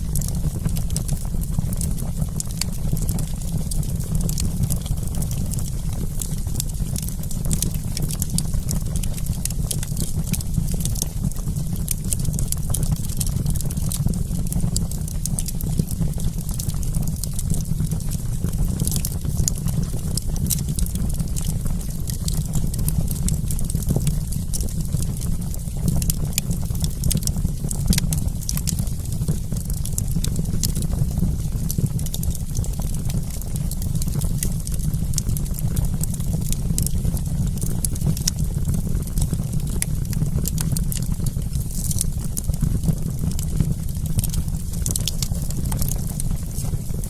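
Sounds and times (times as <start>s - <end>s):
fire pops and snaps: 0.0s - 47.0s
low rumble of flames: 0.0s - 47.0s.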